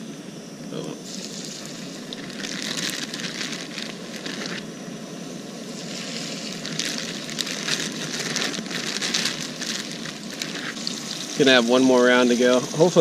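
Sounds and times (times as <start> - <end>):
fish frying in hot oil: 1.0 - 13.0.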